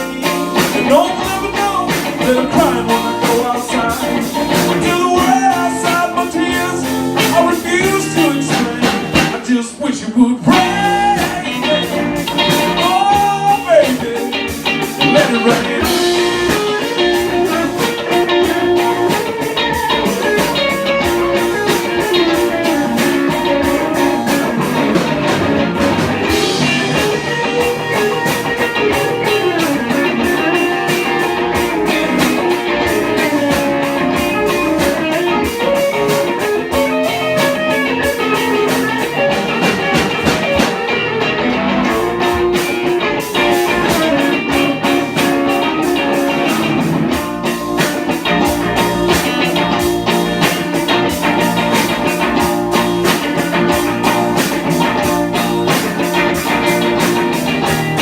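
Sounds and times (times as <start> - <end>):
electric guitar over band: 0.0 - 58.0.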